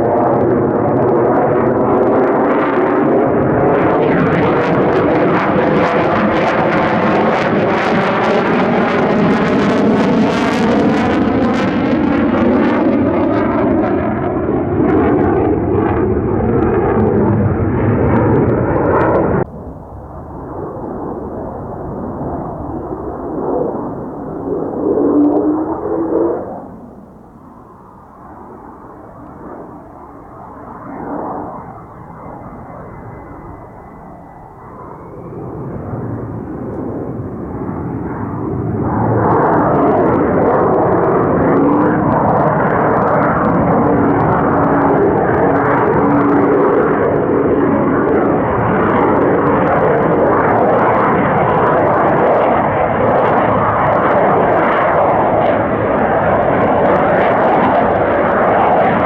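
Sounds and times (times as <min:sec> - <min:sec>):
jet engine noise: 0:00.0 - 0:59.0.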